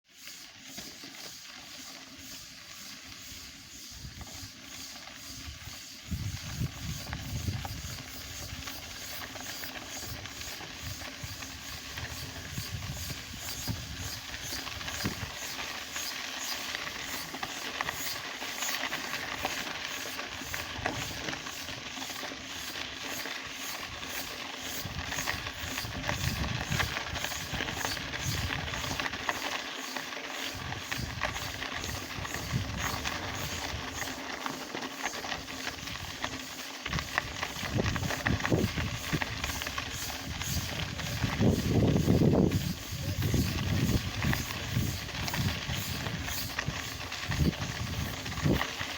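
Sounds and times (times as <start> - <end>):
cicada buzzing: 0.4 - 34.3, 35.0 - 48.9.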